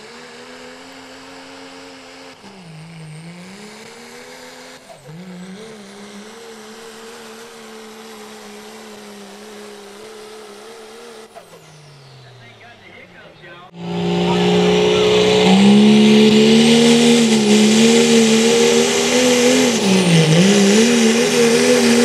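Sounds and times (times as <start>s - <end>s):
diesel truck engine straining: 0.0s - 22.0s.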